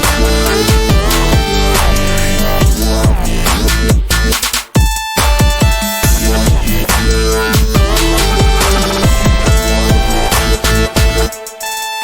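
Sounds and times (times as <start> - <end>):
bass drum hits: 0.0 - 4.3, 5.6 - 11.3
electronic dance music: 0.0 - 12.0.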